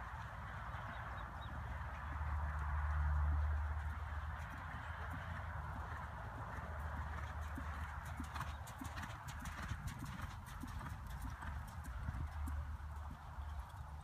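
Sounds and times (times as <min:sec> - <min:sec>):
horse hoofbeats on dirt: 0:00.0 - 0:14.0.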